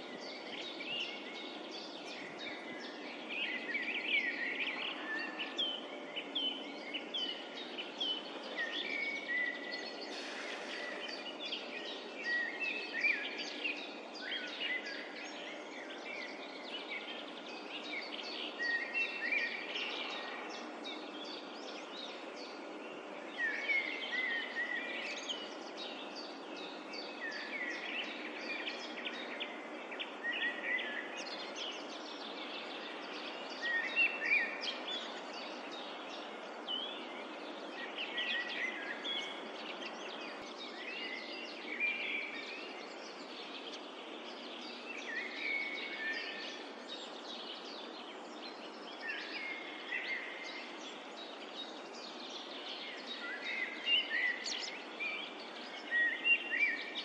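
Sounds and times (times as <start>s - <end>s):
songbirds singing: 0.0s - 57.0s
woodland ambience hiss: 0.0s - 57.0s.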